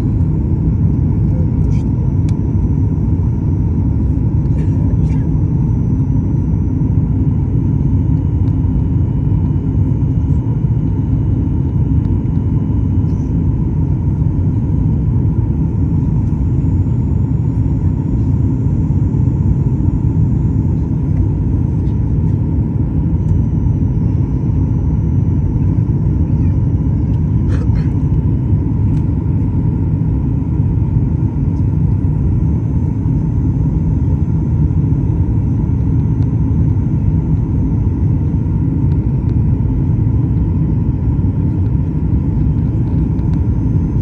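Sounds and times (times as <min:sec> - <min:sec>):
airliner cabin engine rumble: 0:00.0 - 0:44.0.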